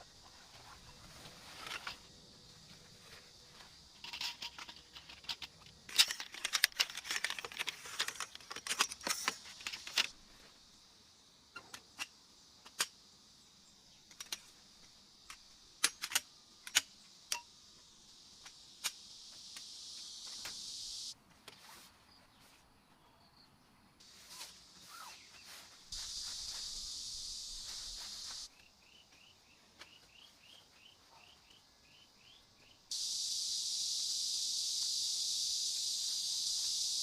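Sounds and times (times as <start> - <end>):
steady high hiss: 0.0 - 21.2, 24.0 - 37.0.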